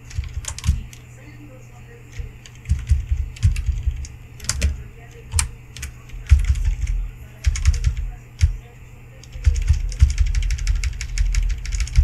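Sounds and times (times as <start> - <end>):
computer keyboard typing: 0.0 - 1.0, 2.1 - 8.6, 9.2 - 12.0.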